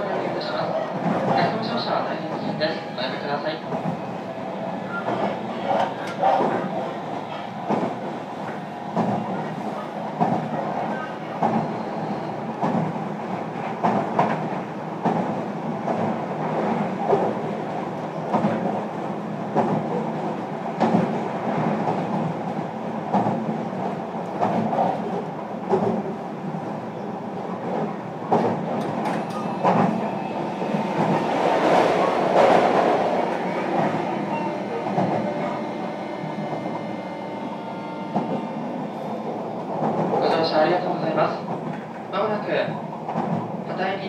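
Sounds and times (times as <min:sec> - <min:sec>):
train wheel and track rumble: 0:00.0 - 0:44.0
rail joint clicks: 0:00.4 - 0:42.1, 0:42.8 - 0:43.8.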